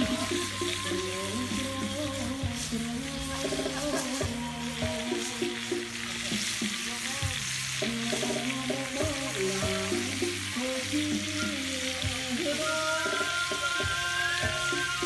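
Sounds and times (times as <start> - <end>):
background music: 0.0 - 15.0
snails sizzling on hot stone: 0.0 - 15.0.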